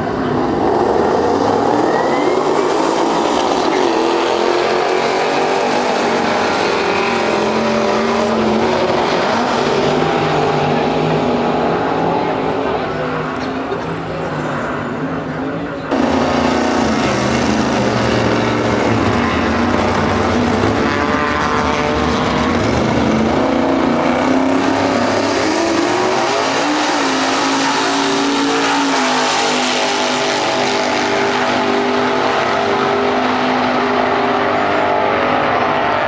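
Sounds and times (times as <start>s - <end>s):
cars accelerating away: 0.0s - 36.0s
drag racing car engines revving: 0.0s - 36.0s.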